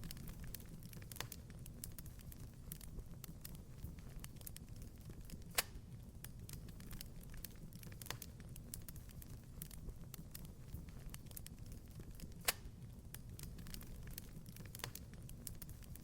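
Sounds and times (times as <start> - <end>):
low steady fire rumble: 0.0 - 16.0
wood fire crackling: 0.0 - 16.0.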